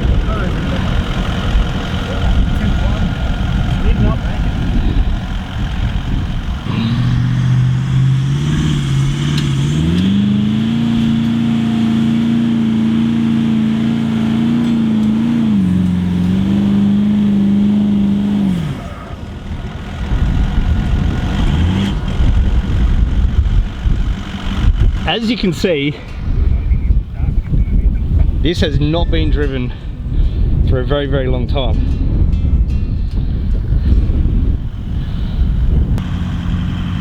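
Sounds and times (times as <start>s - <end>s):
car engine revving: 0.0s - 26.4s, 33.4s - 37.0s.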